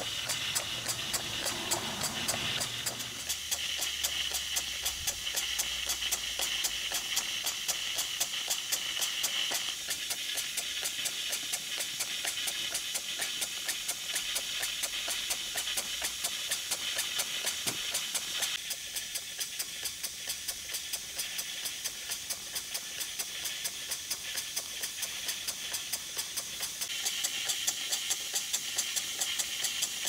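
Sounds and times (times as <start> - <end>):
steam engine exhaust beat: 0.0 - 30.0
steam hiss: 0.0 - 30.0.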